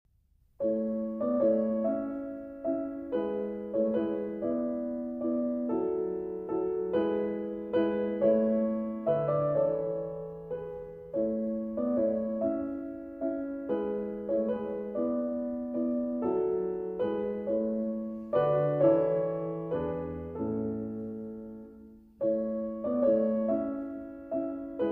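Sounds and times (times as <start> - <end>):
gentle piano melody: 0.6 - 24.9.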